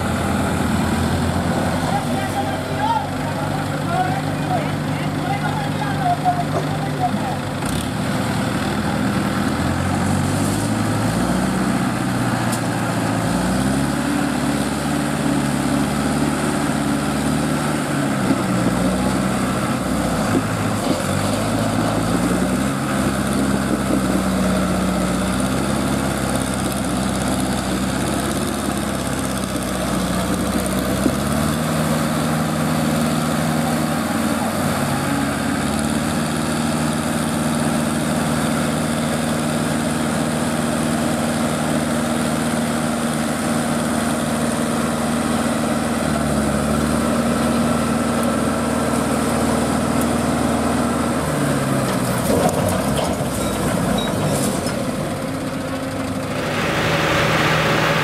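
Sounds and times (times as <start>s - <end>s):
crane diesel engine running: 0.0s - 58.0s.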